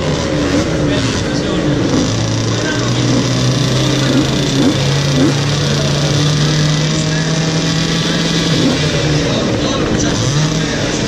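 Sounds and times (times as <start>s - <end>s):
motorcycle engine idling: 0.0s - 11.0s
motorcycle engines revving: 0.0s - 11.0s.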